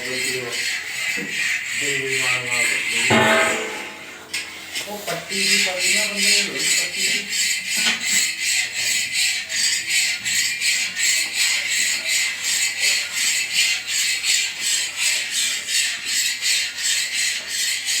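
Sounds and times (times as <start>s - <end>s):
machine scraper rasping in a pan: 0.0s - 18.0s.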